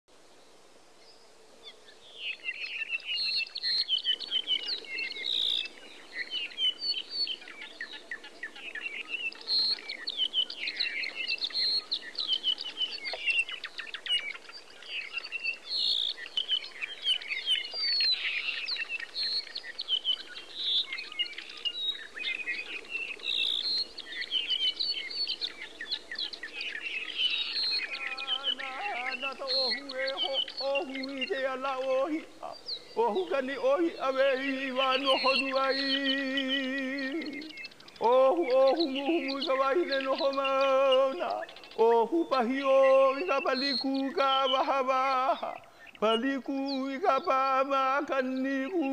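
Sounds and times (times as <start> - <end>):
many birds chirping and singing: 0.4 - 48.9.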